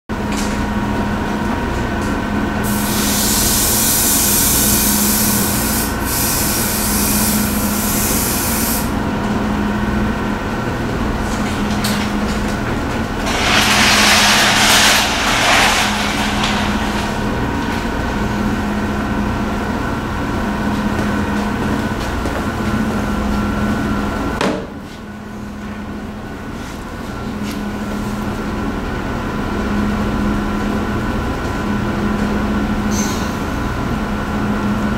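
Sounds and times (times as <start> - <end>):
low machine hum: 0.1 - 34.9.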